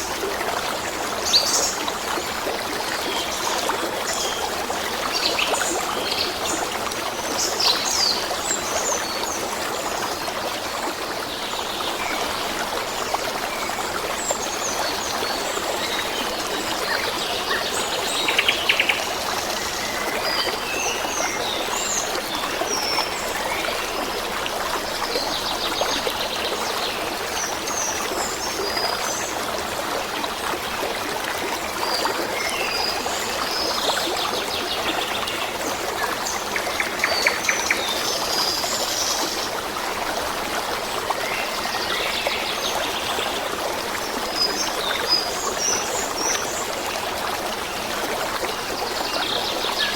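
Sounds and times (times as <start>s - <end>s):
small stream flowing: 0.0s - 49.9s.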